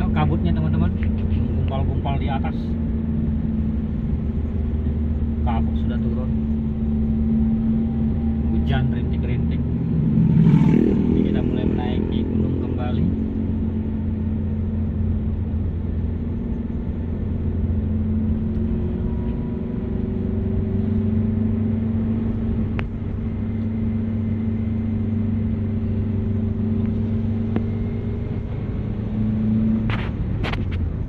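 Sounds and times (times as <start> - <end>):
vehicle engine under load: 0.0 - 31.0.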